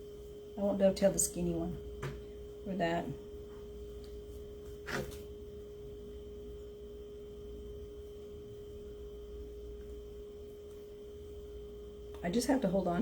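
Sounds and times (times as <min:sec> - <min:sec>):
pure electrical tone: 0:00.0 - 0:13.0.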